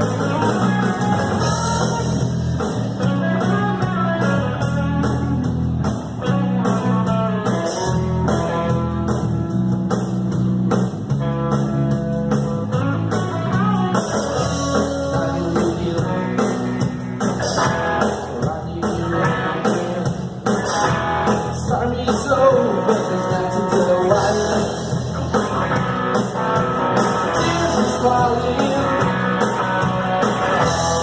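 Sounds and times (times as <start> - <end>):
bass and drums: 0.0 - 31.0
guitar melody: 0.0 - 31.0.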